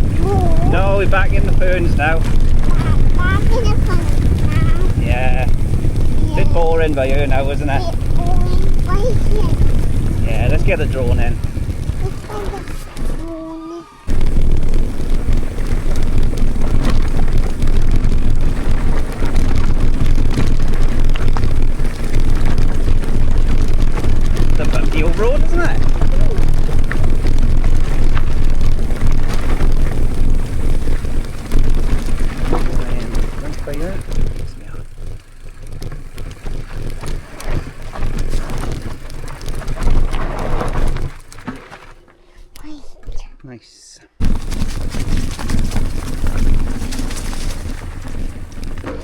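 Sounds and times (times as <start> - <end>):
wind buffeting microphone: 0.0 - 41.5, 44.2 - 49.0
mountain bike rattling over rough track: 0.0 - 42.4, 44.2 - 49.0.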